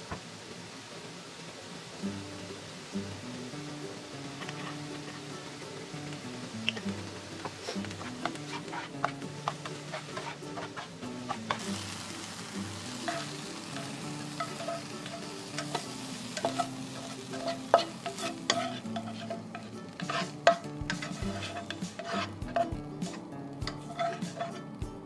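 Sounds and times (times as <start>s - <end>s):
food sizzling in a frying pan: 0.0s - 25.0s
spatula scraping a pan: 4.2s - 24.8s.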